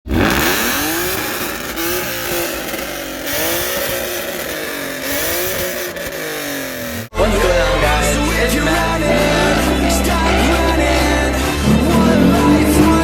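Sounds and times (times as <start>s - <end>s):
car engine revving: 0.0s - 7.1s, 7.8s - 13.0s.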